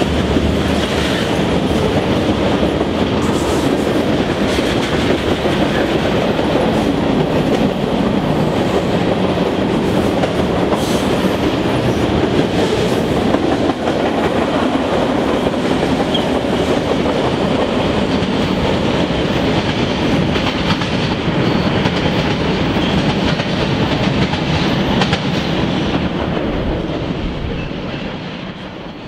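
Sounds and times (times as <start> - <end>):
freight train wheels rumbling on rails: 0.0 - 29.0
train wheels clacking over rail joints: 0.0 - 29.0.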